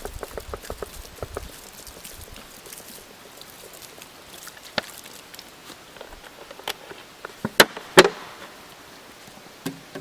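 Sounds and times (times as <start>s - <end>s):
water splashing: 0.0s - 8.8s.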